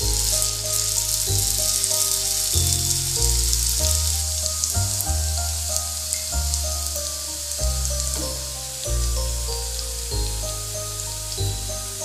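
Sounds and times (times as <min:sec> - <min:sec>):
background music with bass: 0:00.0 - 0:12.0
batter sizzling in hot oil: 0:00.0 - 0:12.0.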